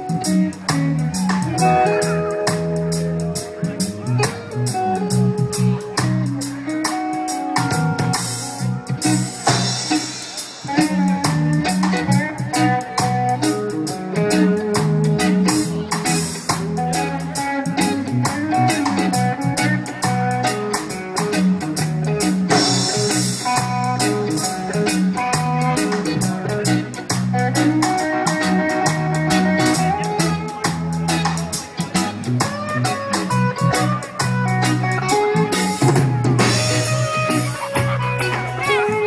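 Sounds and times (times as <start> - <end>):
reggae band playing: 0.0 - 39.0.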